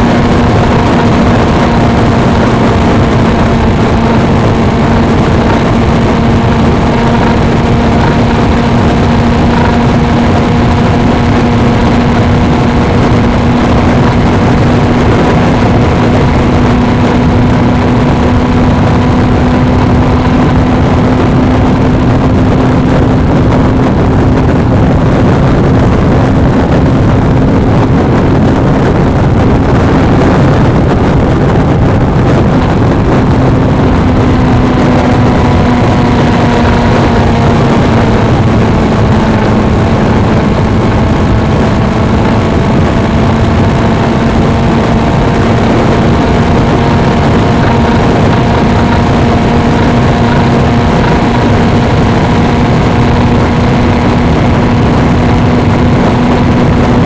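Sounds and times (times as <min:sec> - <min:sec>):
motorcycle engine cruising: 0:00.0 - 0:57.0
wind and road rush: 0:00.0 - 0:57.0.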